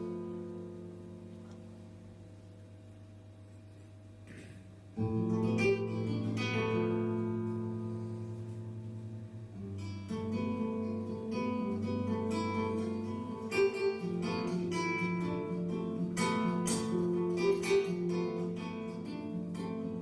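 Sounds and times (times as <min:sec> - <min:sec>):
acoustic guitar music: 0:00.0 - 0:02.6, 0:04.2 - 0:20.0.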